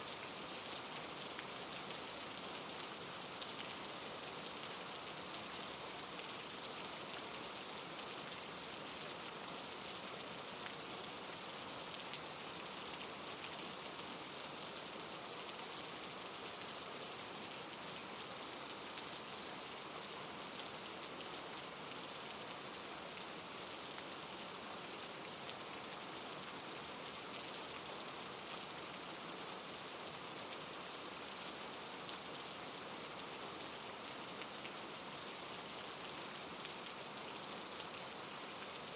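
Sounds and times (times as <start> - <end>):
soft rain falling: 0.0 - 38.9.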